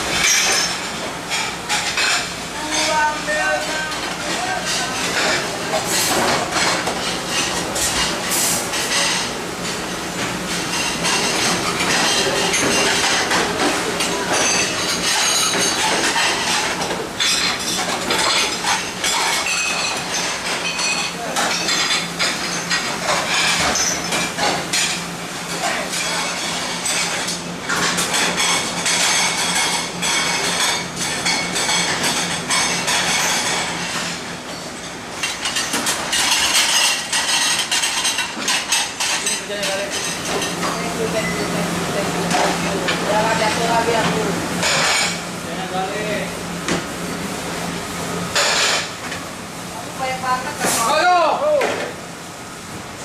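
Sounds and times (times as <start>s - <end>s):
steady machine hum: 0.0s - 53.0s
metal and crockery clattering: 0.2s - 9.3s, 10.7s - 41.4s, 42.2s - 45.2s, 48.4s - 48.9s.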